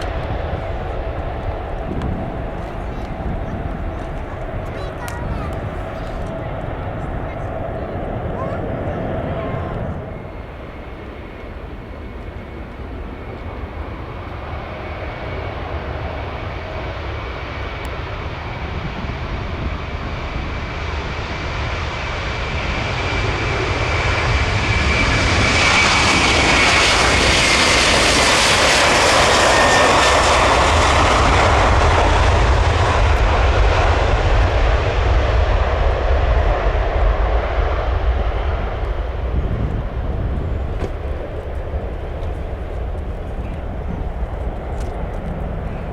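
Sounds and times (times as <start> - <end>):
deep jet rumble: 0.0 - 45.9
high turbine whine: 0.0 - 45.9
jet engines roaring: 0.0 - 45.9.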